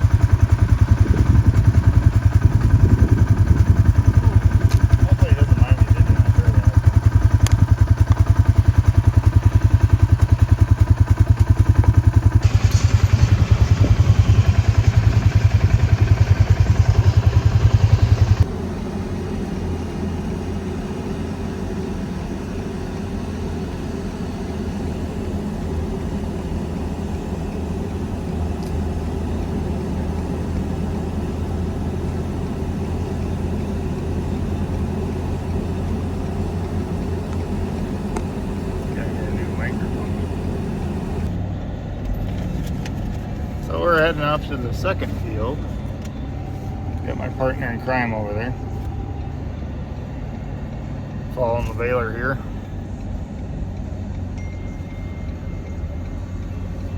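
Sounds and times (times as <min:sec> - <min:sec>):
engine drone: 0:00.0 - 0:56.9
vehicle engine pulsing: 0:00.0 - 0:56.9.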